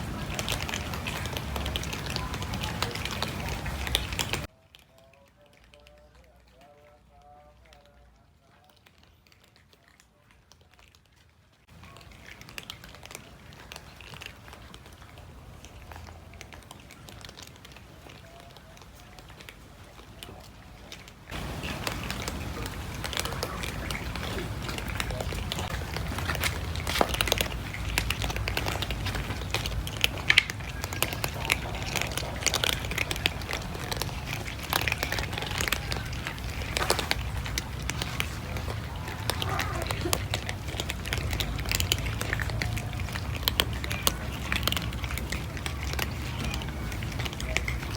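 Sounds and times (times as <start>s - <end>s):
cat chewing food: 0.0s - 47.9s.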